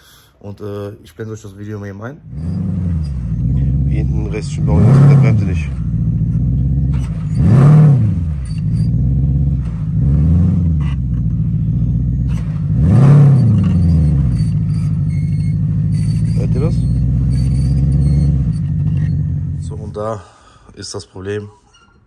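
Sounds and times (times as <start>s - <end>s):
car engine revving: 2.2s - 20.2s.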